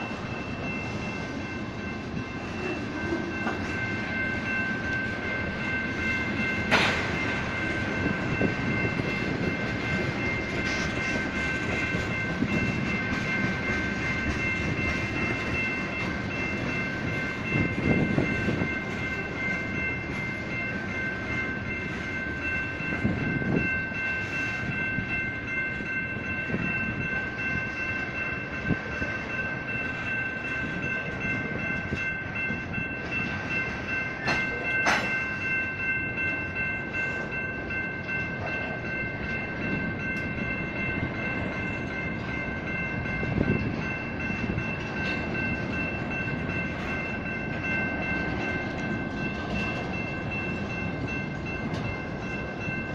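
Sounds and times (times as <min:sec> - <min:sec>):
railroad crossing bells: 0:00.0 - 0:52.9
train rumbling: 0:00.0 - 0:52.9.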